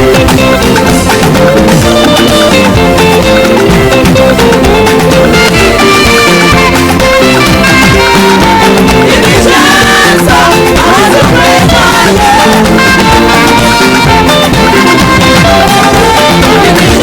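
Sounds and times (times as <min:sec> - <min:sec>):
live band praise music: 0:00.0 - 0:17.0
saxophone lead: 0:00.0 - 0:17.0.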